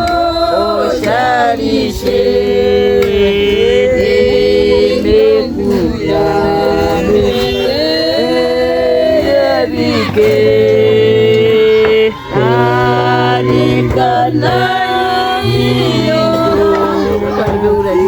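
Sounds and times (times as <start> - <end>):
sliding held vocal notes: 0.0 - 18.0.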